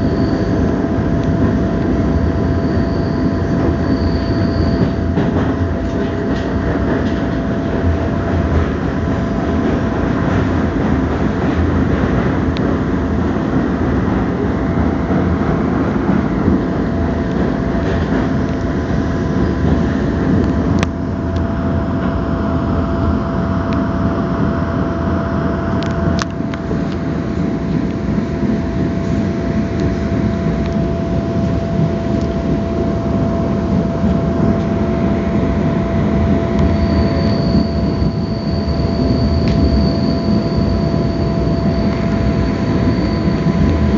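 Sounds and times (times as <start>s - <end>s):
constant whine: 0.0s - 43.9s
train wheels rumbling on rail: 0.0s - 43.9s.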